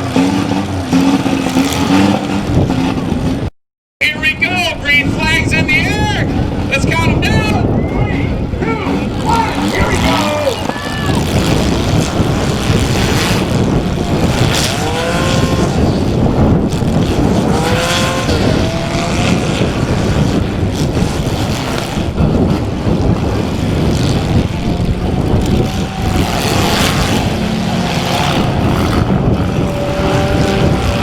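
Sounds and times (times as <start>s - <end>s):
car engines revving hard: 0.0s - 3.5s, 4.3s - 31.0s.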